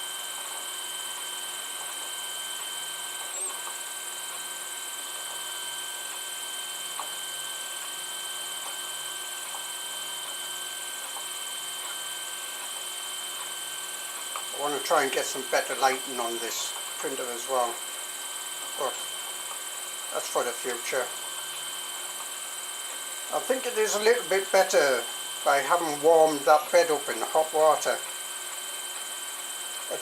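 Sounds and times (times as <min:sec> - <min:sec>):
printer humming with high whine: 0:00.0 - 0:30.0.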